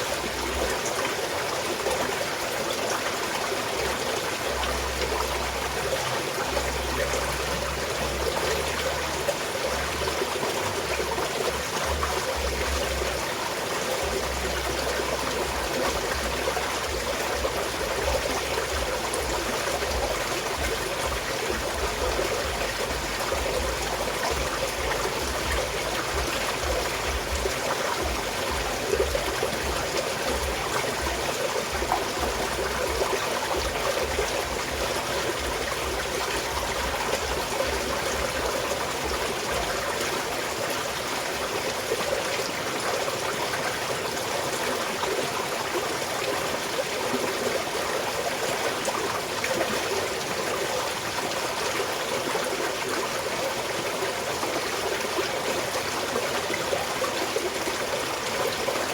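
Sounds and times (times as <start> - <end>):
stream trickling over rocks: 0.0 - 58.9.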